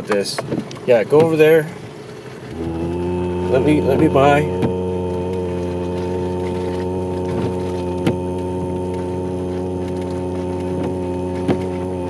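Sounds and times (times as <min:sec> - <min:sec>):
vehicle engine droning: 0:02.2 - 0:12.0.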